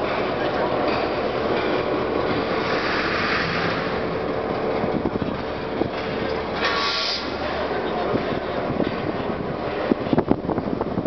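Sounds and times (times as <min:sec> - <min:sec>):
diesel locomotive running: 0:00.0 - 0:11.0.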